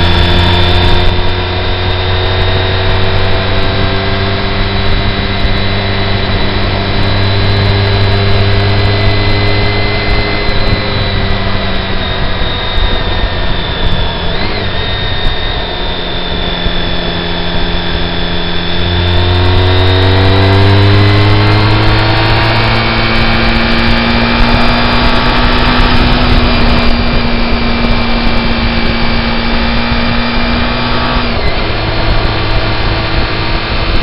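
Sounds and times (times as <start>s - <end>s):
car engine and road noise: 0.0s - 34.0s
thin high whine: 0.0s - 34.0s.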